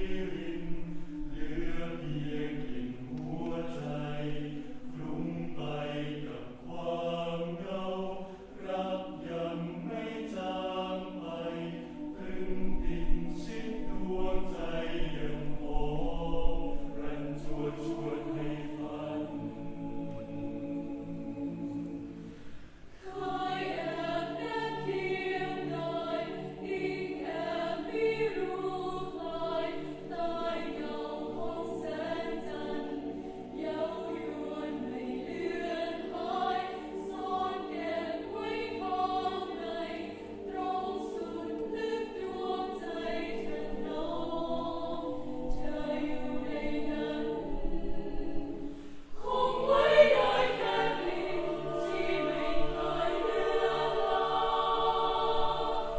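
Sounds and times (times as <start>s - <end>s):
choir singing in harmony: 0.0s - 55.9s.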